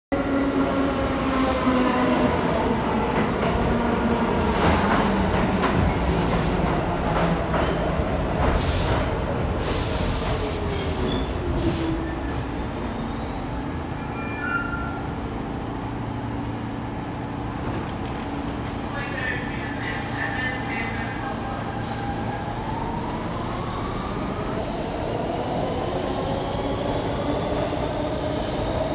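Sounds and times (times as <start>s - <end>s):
train hum: 0.2s - 28.9s.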